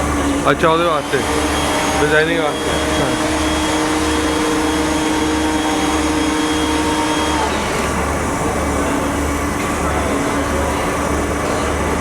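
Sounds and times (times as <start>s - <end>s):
spindle whine: 0.0s - 11.2s
steady machine noise: 0.0s - 12.0s.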